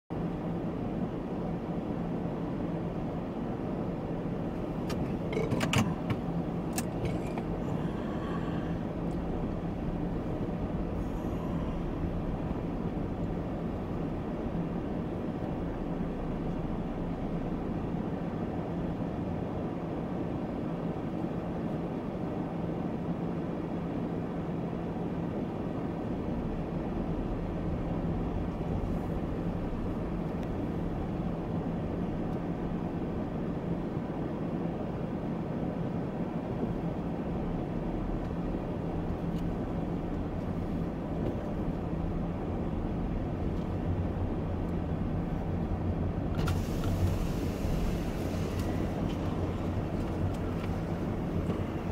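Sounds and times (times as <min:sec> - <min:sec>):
car idling heard from cabin: 0:00.2 - 0:51.9.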